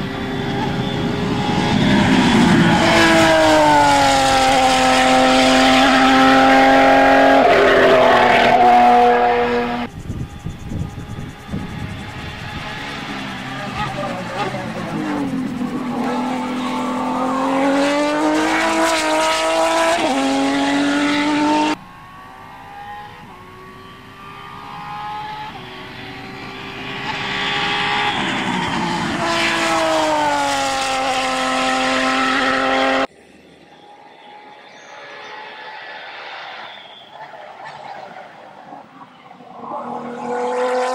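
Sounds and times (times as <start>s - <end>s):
racing car engine passing: 0.0s - 33.1s, 33.7s - 40.9s.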